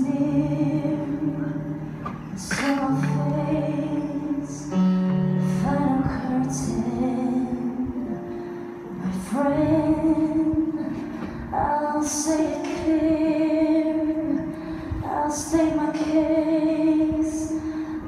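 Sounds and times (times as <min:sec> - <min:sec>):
musical accompaniment: 0:00.0 - 0:18.0
woman singing long notes: 0:00.0 - 0:18.0.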